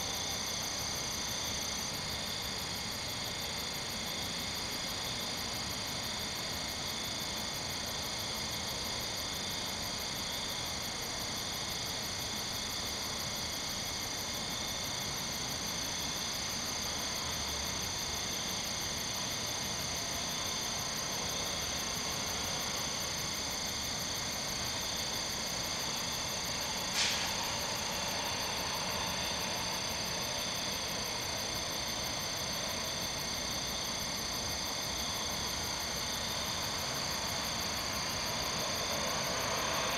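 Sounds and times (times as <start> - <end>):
crickets and katydids trilling: 0.0 - 39.9.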